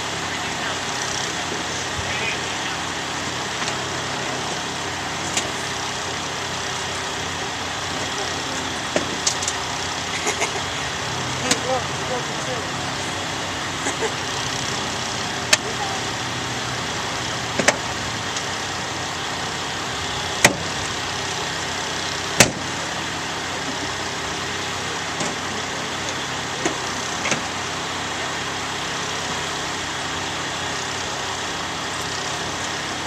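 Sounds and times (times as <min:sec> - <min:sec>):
vehicle engines idling: 0:00.0 - 0:33.0.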